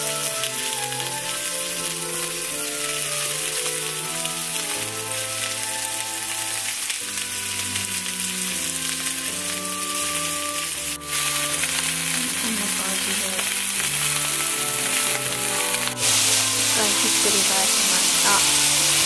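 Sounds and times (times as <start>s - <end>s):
background music: 0.0s - 19.0s
rolls sizzling in frying pan: 0.0s - 19.0s.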